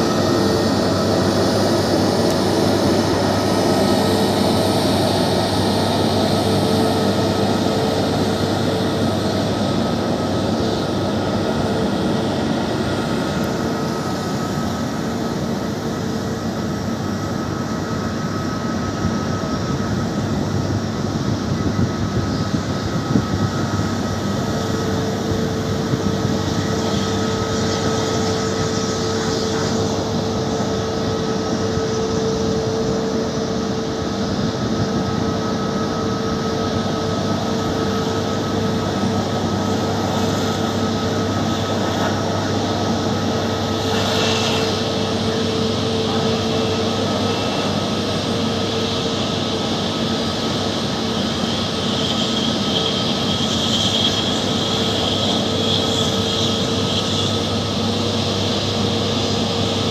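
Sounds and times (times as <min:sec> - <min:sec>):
jet engines droning and whining: 0:00.0 - 0:59.9.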